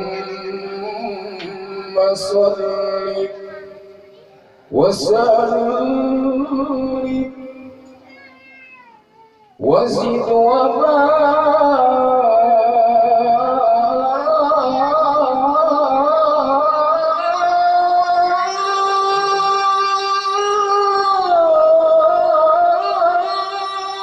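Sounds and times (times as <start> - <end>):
person chanting: 0.0 - 7.9, 9.6 - 24.0.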